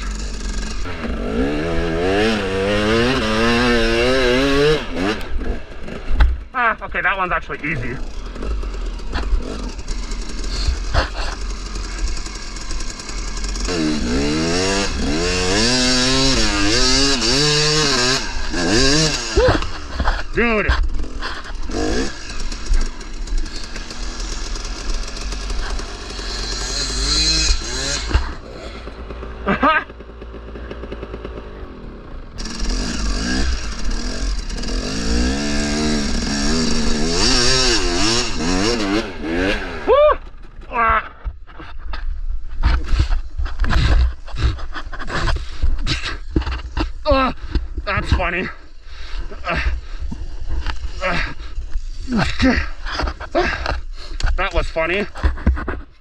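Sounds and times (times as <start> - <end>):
dirt bike engine revving: 0.0 - 55.8.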